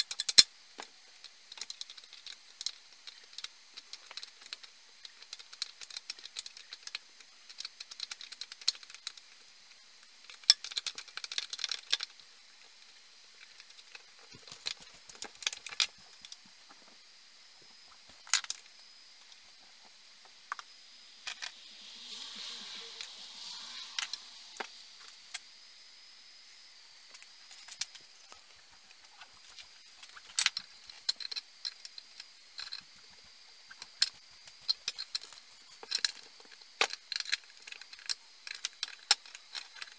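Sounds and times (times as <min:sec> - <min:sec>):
soft hiss: 0:00.0 - 0:38.4.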